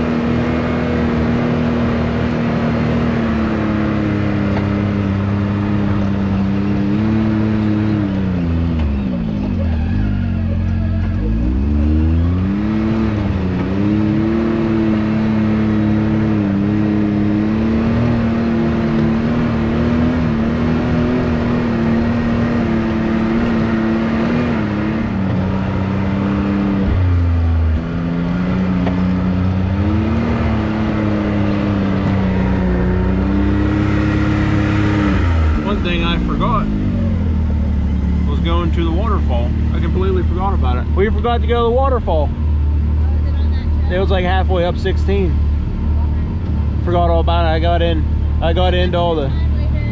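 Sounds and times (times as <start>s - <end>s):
off-road vehicle engine revving: 0.0s - 49.9s.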